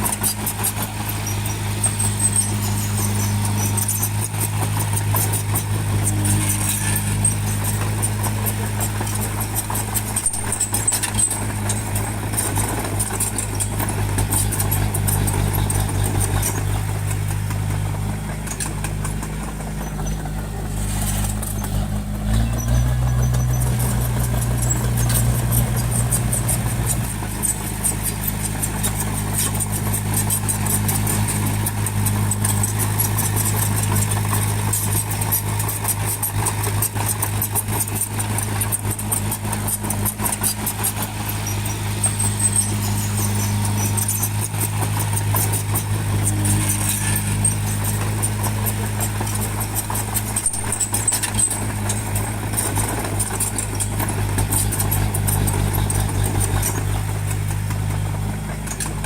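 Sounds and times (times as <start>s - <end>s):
bulldozer diesel engine running: 0.0s - 59.0s
rapid fine clatter: 0.0s - 59.0s.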